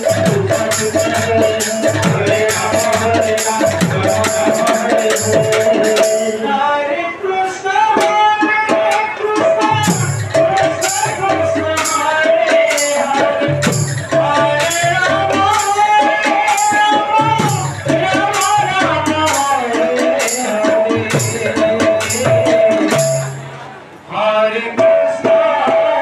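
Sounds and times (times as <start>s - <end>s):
barrel drum beat: 0.0s - 6.4s, 8.0s - 23.6s
jingling percussion: 0.0s - 6.4s, 8.0s - 23.6s
man singing: 0.0s - 26.0s.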